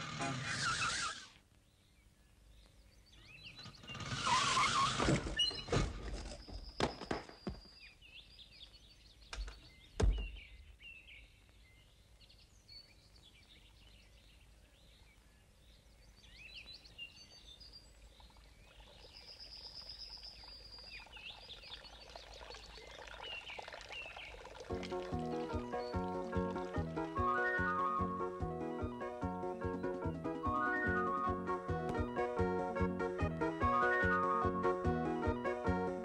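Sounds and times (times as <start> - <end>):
birds chirping and singing: 0.0 - 24.4, 25.0 - 31.7.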